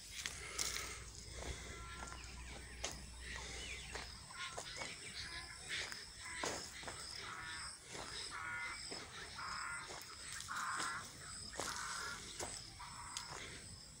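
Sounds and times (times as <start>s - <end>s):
bird calling: 0.0s - 14.0s
footsteps on dry ground: 0.0s - 14.0s.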